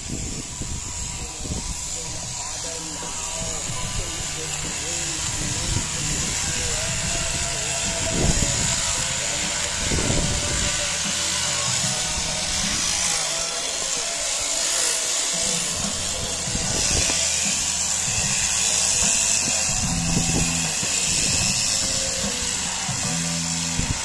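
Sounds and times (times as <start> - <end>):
electric shears buzzing: 0.0 - 24.0.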